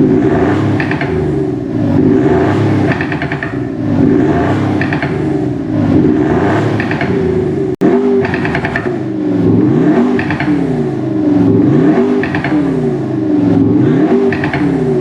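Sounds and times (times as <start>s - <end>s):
synthetic exhaust note revving: 0.0s - 15.0s.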